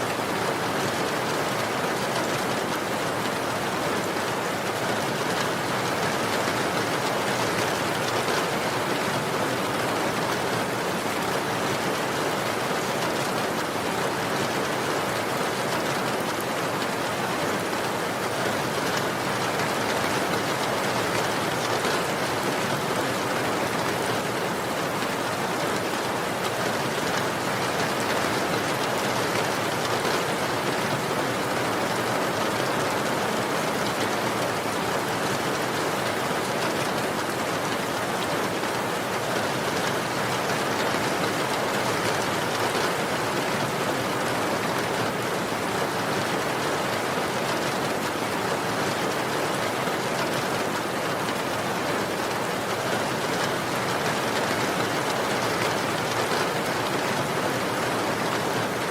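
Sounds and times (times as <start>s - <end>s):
rain patter: 0.0s - 58.9s.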